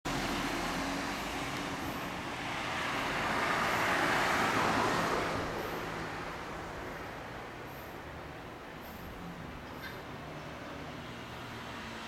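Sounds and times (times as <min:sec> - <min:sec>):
background traffic: 0:00.0 - 0:12.0
vehicle passing: 0:00.1 - 0:12.0.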